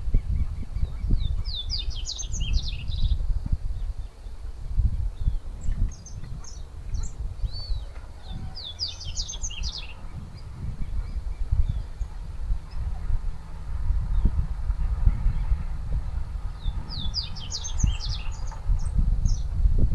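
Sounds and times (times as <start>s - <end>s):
constant low rumbling noise: 0.0s - 19.9s.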